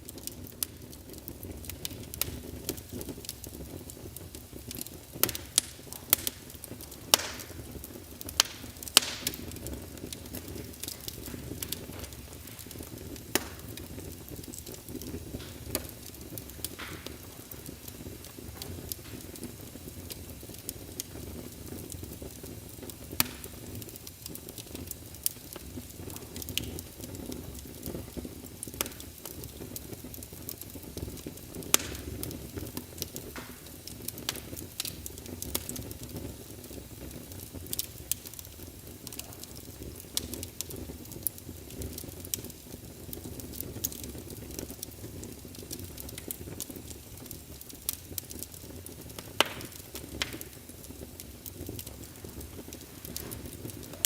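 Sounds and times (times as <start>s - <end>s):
burning logs rumbling: 0.0s - 54.0s
fire crackles and pops: 0.0s - 54.0s.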